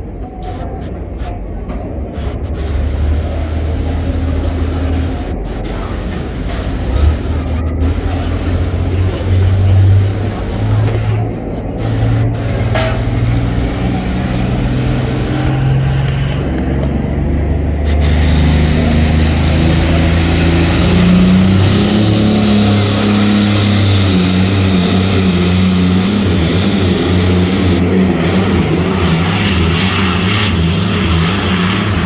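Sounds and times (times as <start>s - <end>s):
tractor engine running loud: 0.0s - 32.0s.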